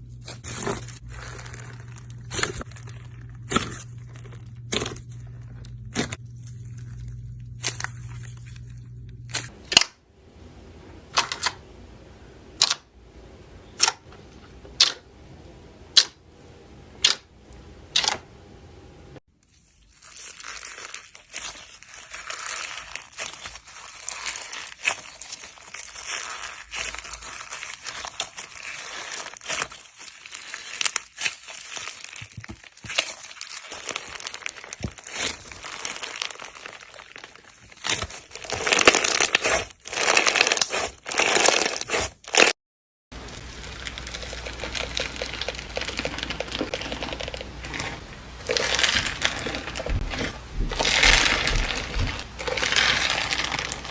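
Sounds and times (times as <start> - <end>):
slime squishing: 0.0 - 9.5, 19.3 - 42.6, 43.2 - 53.9
slime crackling and popping: 0.2 - 9.9, 19.5 - 42.6, 43.2 - 53.9.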